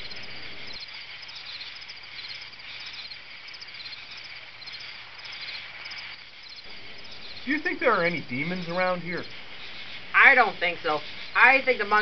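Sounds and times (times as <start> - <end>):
faint steady hiss: 0.0 - 12.0
insects chirping: 0.0 - 12.0.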